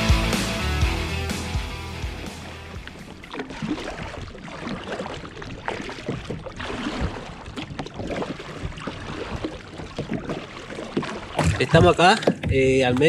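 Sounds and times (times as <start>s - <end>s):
paddle splashing water: 2.0s - 13.0s.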